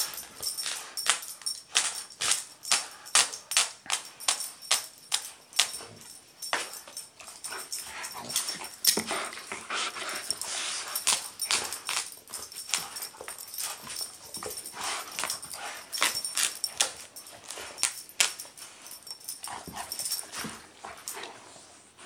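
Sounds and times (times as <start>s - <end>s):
dogs making play noises: 0.0s - 22.0s.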